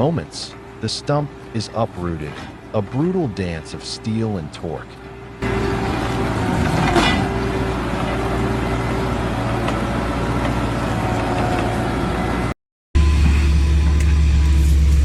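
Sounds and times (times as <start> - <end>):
heavy machine engine running: 0.0 - 15.0
hydraulic auger whine: 0.0 - 15.0.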